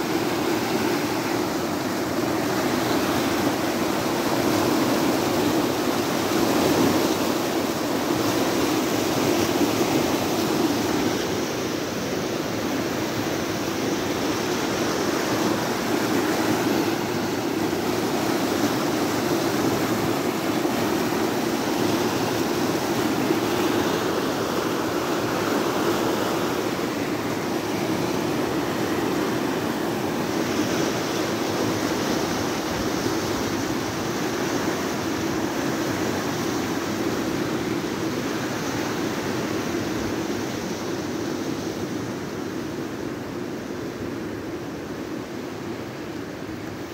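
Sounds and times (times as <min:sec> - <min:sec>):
floodwater rushing over rocks: 0:00.0 - 0:39.6.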